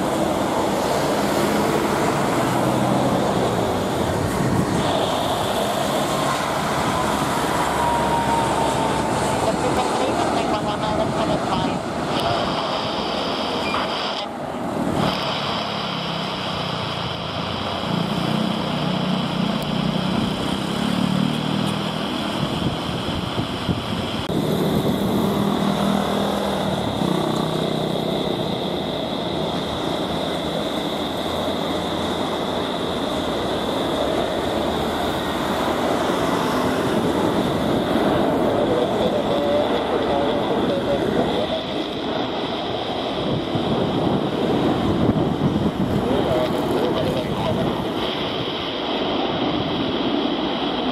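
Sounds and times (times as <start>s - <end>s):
jet engine whine: 0.0s - 50.9s
jet engines rumbling: 0.0s - 50.9s.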